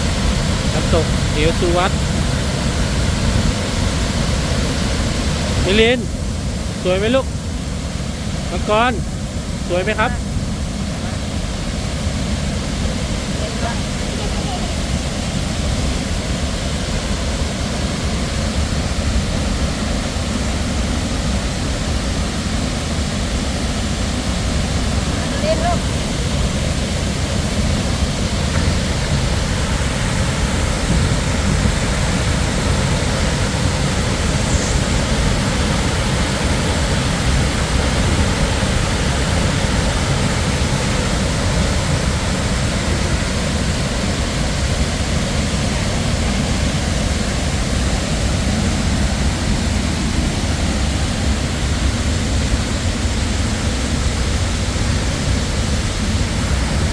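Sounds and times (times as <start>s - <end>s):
waterfall pouring: 0.0s - 56.9s.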